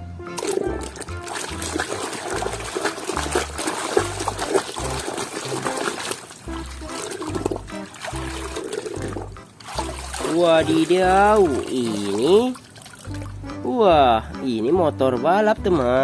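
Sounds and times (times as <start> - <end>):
water running and splashing: 0.4 - 13.4.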